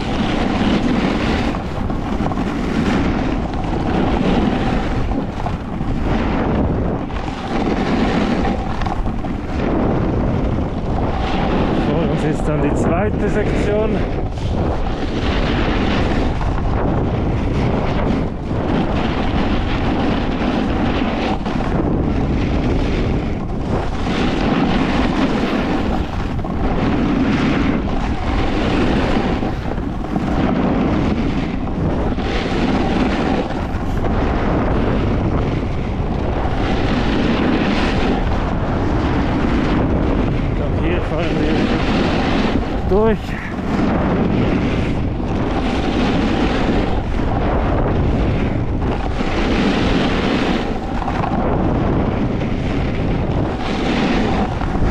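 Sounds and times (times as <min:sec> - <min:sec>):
snowboard scraping on snow: 0:00.0 - 0:54.9
wind rushing over microphone: 0:00.0 - 0:54.9.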